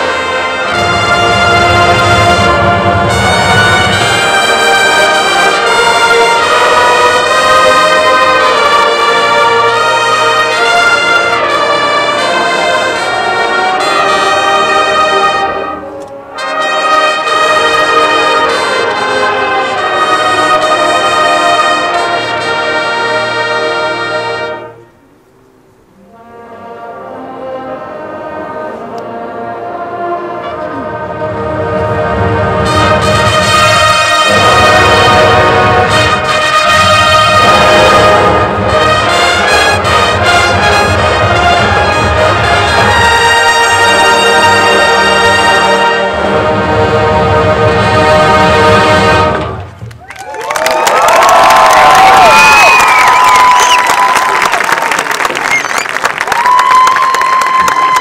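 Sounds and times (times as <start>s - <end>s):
marching band brass playing: 0.0s - 25.2s, 25.9s - 49.8s.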